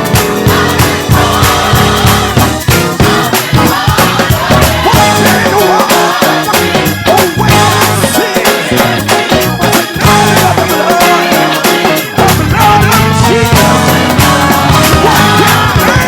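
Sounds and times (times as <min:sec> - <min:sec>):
drum kit beating: 0:00.0 - 0:16.0
gospel band music: 0:00.0 - 0:16.0.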